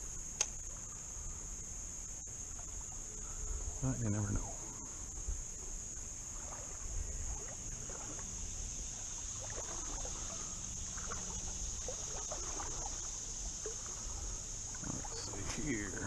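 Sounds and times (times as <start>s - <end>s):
insects droning: 0.0s - 16.0s
creek water splashing: 2.3s - 16.0s.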